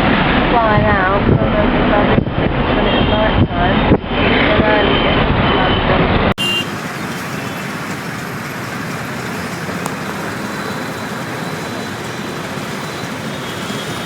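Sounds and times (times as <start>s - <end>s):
engine and tyre rumble: 0.0s - 14.0s.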